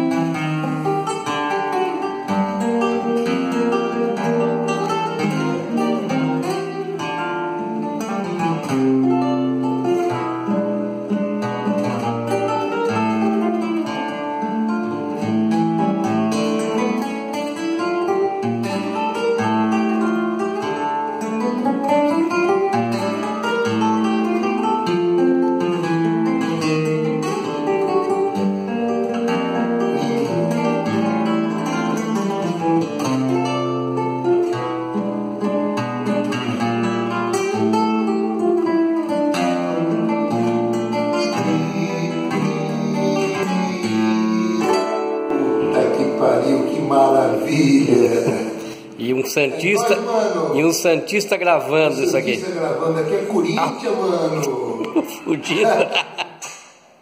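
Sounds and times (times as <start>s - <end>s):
classical guitar playing: 0.0s - 57.0s.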